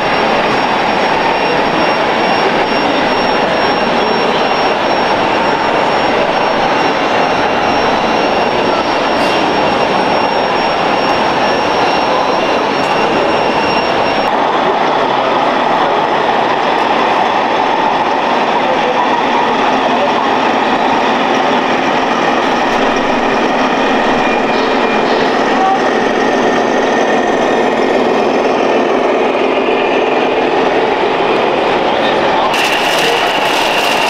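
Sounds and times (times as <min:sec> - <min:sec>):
busy exhibition hall din: 0:00.0 - 0:34.0.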